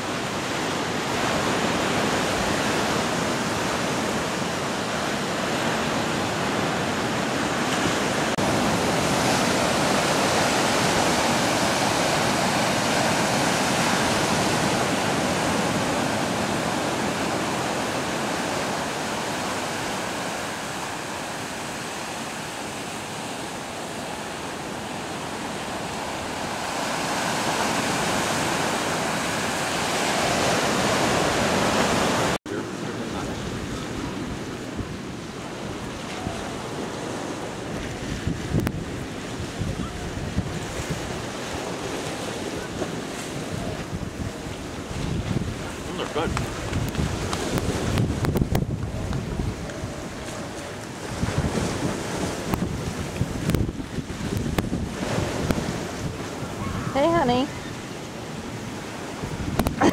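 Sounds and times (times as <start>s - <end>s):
waves breaking over rocks: 0.0s - 59.9s.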